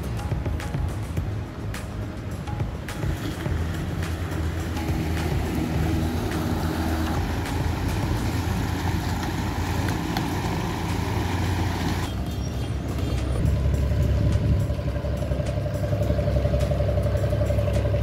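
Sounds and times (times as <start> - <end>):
engine droning hum: 0.0 - 18.0.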